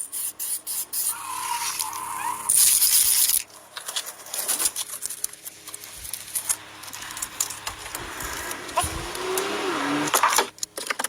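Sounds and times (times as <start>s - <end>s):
spray hissing: 0.0s - 4.7s, 5.6s - 10.4s.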